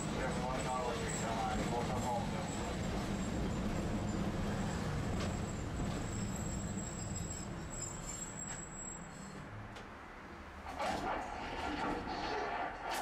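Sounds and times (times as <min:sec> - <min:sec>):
streetcar rumble: 0:00.0 - 0:13.0.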